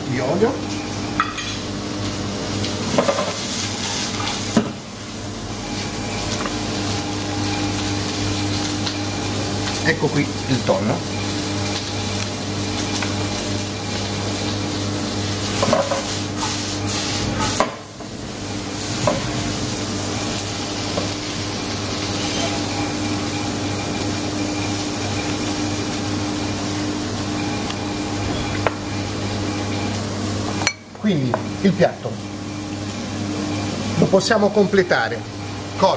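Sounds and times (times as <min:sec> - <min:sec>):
oil sizzling in a frying pan: 0:00.7 - 0:35.9.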